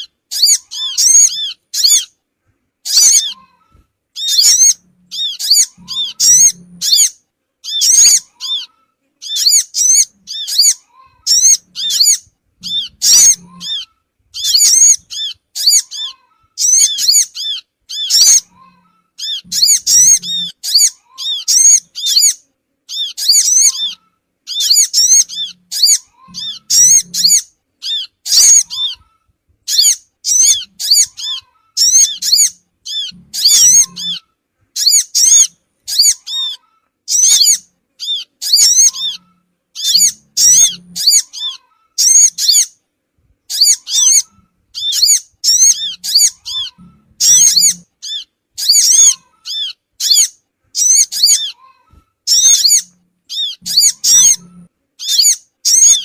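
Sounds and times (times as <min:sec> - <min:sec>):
bird twittering chirps: 0:00.0 - 0:02.1, 0:02.8 - 0:03.5, 0:04.2 - 0:29.1, 0:29.7 - 0:42.7, 0:43.5 - 0:51.6, 0:52.3 - 0:56.0.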